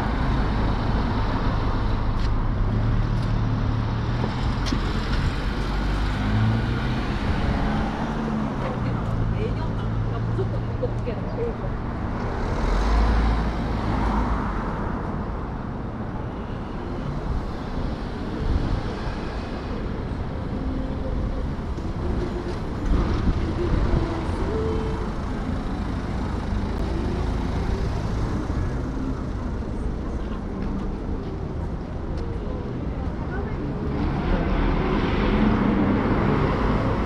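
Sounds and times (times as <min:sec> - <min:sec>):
faint voices of passers-by: 0:00.0 - 0:37.0
road traffic passing: 0:00.0 - 0:37.0.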